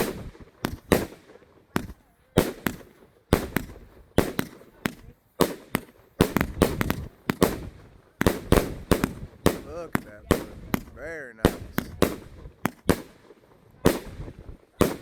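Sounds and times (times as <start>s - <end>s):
firework cake firing: 0.0s - 15.0s.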